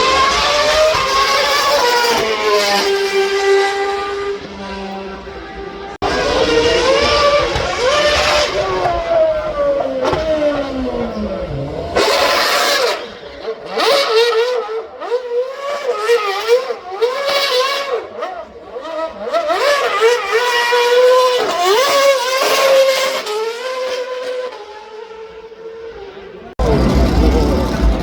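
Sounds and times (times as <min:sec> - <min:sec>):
performance car engine revving: 0:00.0 - 0:28.0.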